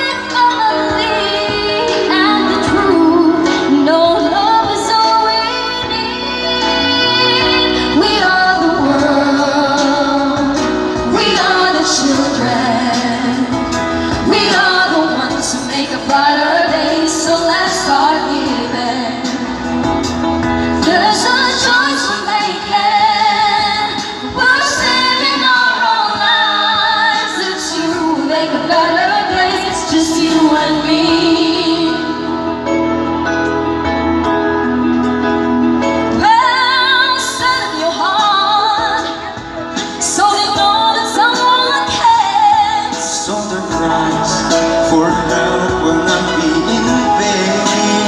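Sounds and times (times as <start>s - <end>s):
women singing into microphones: 0.0s - 19.8s, 20.4s - 33.1s, 35.8s - 48.0s
instrumental accompaniment: 0.0s - 48.0s.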